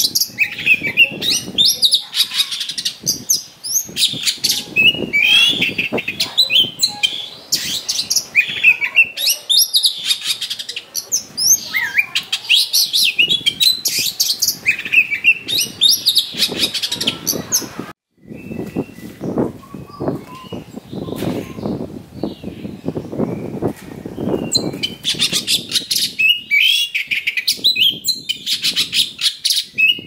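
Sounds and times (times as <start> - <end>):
bird singing varied song: 0.0 - 30.0.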